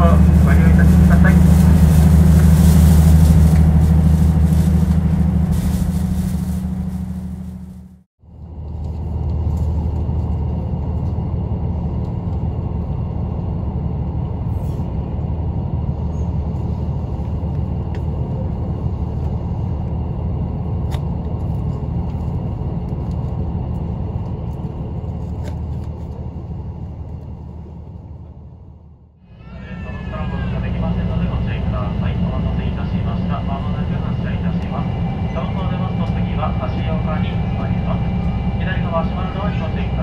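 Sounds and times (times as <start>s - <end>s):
train rumble inside passenger car: 0.0s - 40.0s.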